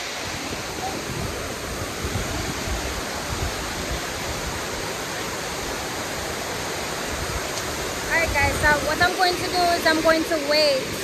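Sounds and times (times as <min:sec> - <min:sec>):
water cascading over rocks: 0:00.0 - 0:11.0.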